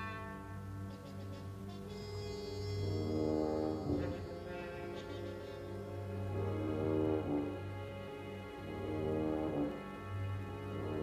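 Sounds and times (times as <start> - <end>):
orchestral music with sustained brass: 0.0 - 11.0.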